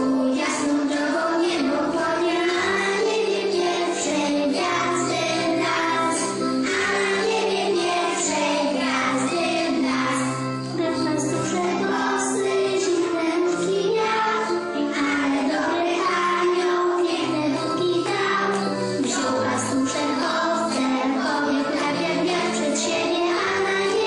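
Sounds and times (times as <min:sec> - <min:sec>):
children singing: 0:00.0 - 0:24.0
instrumental accompaniment: 0:00.0 - 0:24.0.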